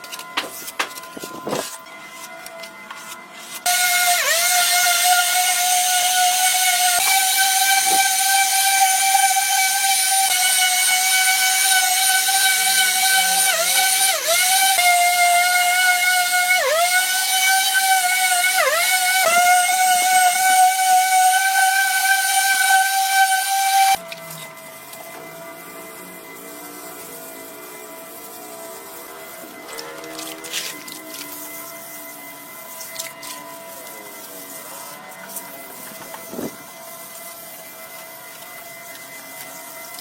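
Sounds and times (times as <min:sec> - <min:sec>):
high-speed rotary tool whining: 0:00.2 - 0:40.0.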